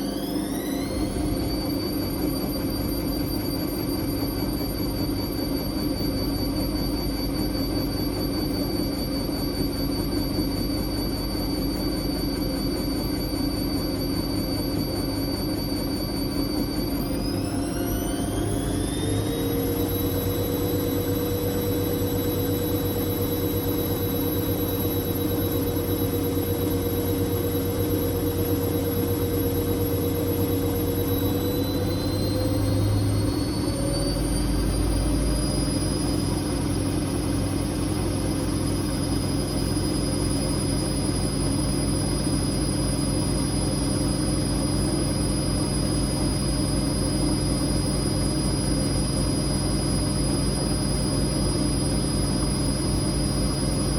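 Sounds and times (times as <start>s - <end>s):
washing machine spinning: 0.0s - 53.9s.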